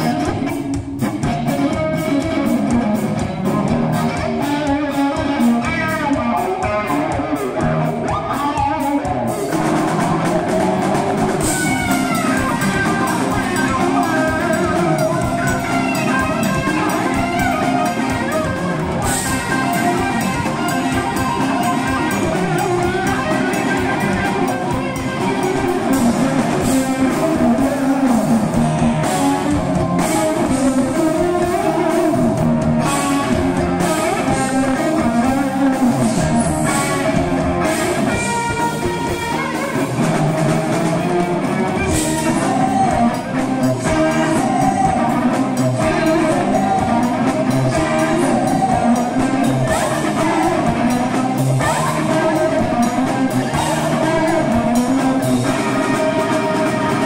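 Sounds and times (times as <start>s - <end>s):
drum kit: 0.0s - 57.0s
electric guitar lead lines: 0.0s - 57.0s.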